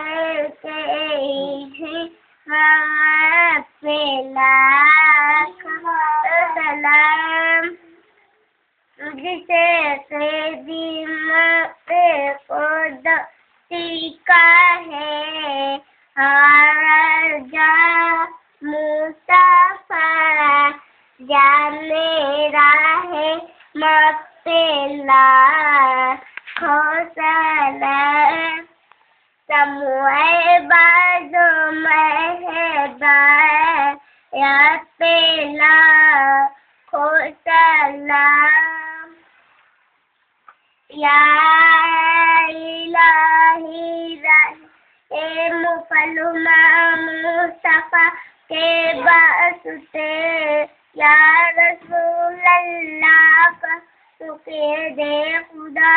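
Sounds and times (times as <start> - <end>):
child singing: 0.0 - 8.1, 9.0 - 28.8, 29.5 - 39.2, 40.9 - 55.9.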